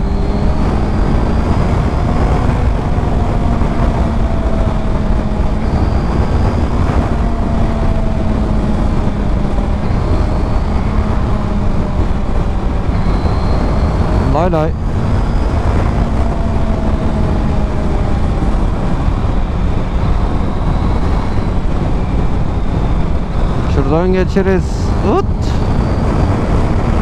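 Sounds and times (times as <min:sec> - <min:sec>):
motorcycle engine cruising: 0:00.0 - 0:27.0
wind noise on microphone: 0:00.0 - 0:27.0.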